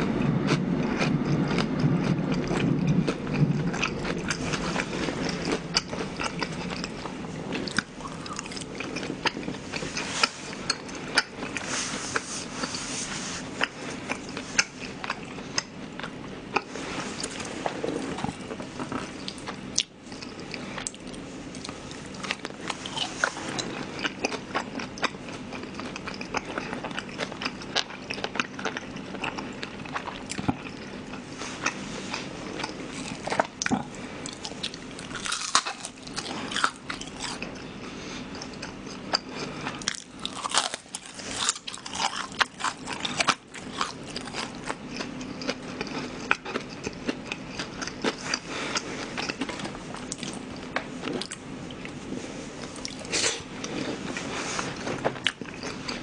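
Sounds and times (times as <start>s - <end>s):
chewing with crunches: 0.0s - 56.0s
steady low hum: 0.0s - 56.0s.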